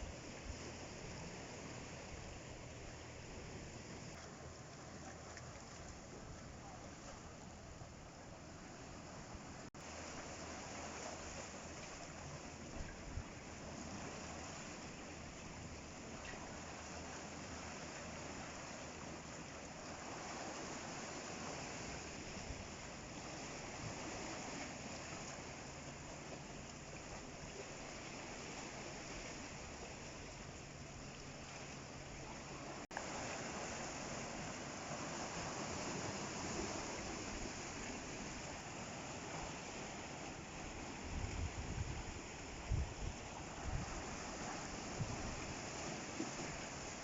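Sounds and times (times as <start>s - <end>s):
ocean surf washing: 0.0s - 47.0s.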